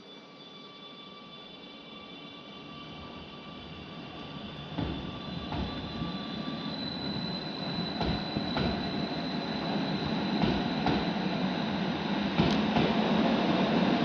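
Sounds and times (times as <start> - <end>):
train high whine: 0.0 - 14.0.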